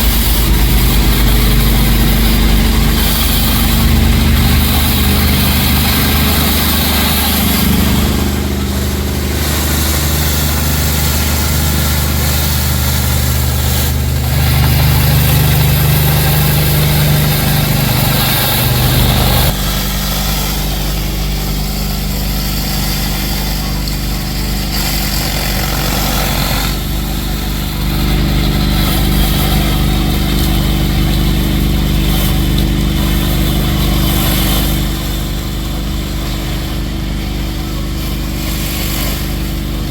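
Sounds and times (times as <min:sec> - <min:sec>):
high-pressure water spray hiss: 0:00.0 - 0:39.9
pressure washer engine running: 0:00.0 - 0:39.9.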